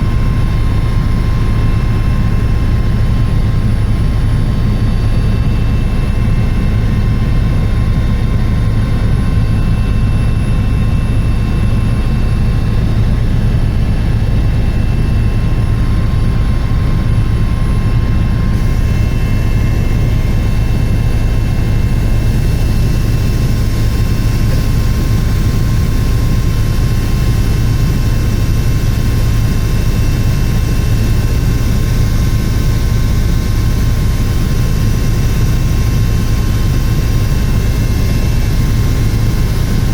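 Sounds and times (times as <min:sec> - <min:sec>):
helicopter rotor and engine drone: 0:00.0 - 0:39.9
turbine whine: 0:00.0 - 0:39.9.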